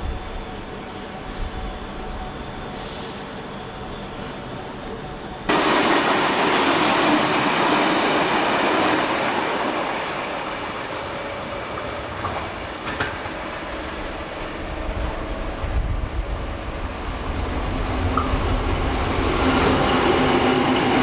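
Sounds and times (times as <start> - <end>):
train wheels rolling on rails: 0.1 - 21.0.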